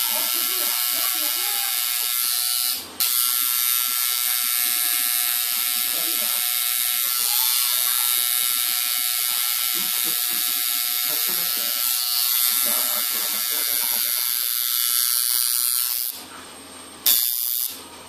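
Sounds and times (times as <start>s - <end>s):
tattoo machine buzzing: 0.0s - 16.2s, 17.0s - 17.8s.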